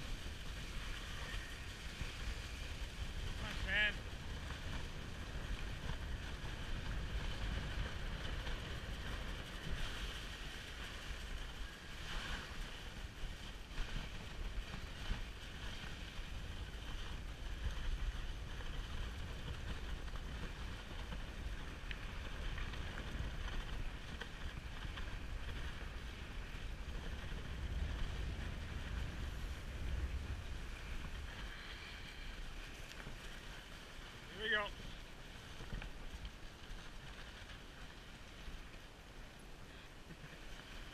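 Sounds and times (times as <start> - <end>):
sled runners hissing over snow: 0.0 - 40.9
wind rumbling on microphone: 0.0 - 40.9.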